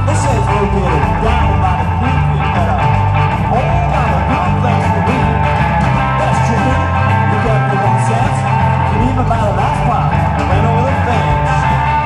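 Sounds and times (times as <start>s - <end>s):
amplified blues harmonica: 0.0s - 12.0s
blues band playing: 0.0s - 12.0s.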